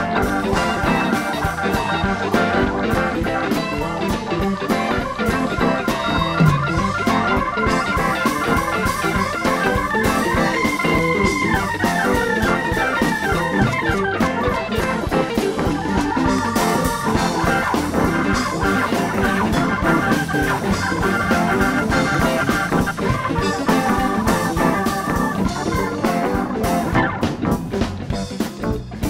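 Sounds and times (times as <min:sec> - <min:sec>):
blues-rock band playing: 0:00.0 - 0:29.0
organ: 0:00.0 - 0:29.0.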